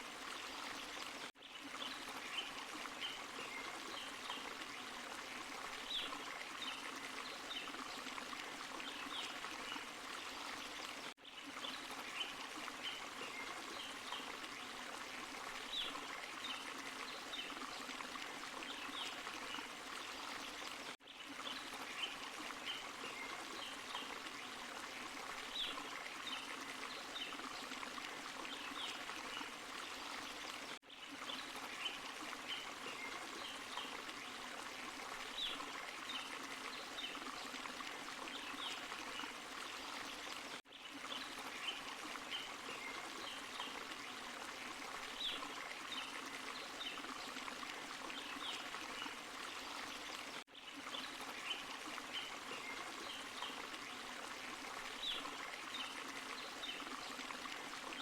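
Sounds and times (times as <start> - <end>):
stream and small waterfall: 0.0 - 58.0.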